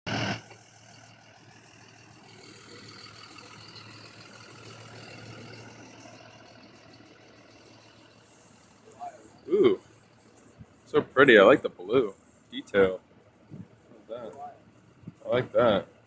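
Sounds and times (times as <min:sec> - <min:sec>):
vehicle engine idling: 0:00.1 - 0:16.0.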